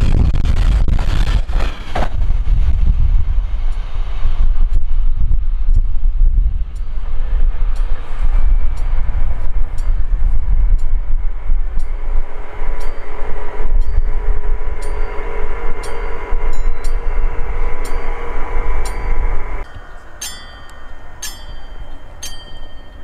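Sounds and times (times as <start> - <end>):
steady whine: 0.0 - 23.0
train rumbling past: 0.0 - 23.0
rail clicks: 3.5 - 23.0.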